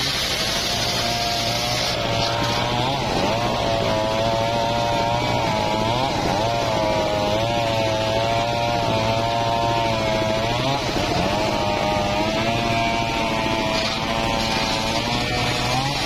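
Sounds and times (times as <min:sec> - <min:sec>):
circular saw cutting wood: 0:00.0 - 0:16.0.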